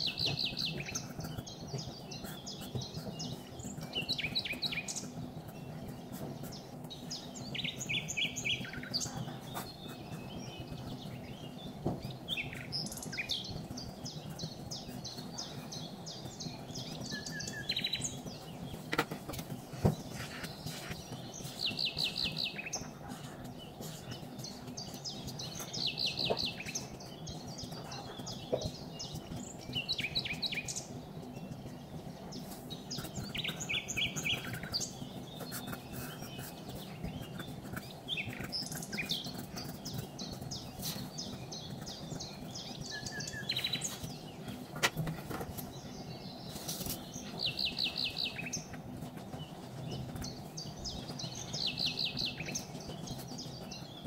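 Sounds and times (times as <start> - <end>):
small birds chirping: 0.0 - 54.0
steady low background noise: 0.0 - 54.0.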